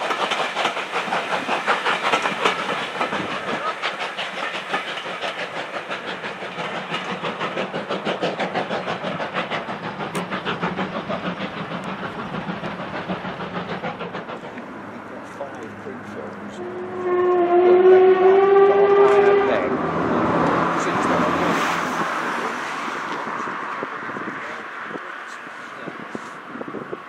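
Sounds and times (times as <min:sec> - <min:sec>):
steam train passing: 0:00.0 - 0:27.0.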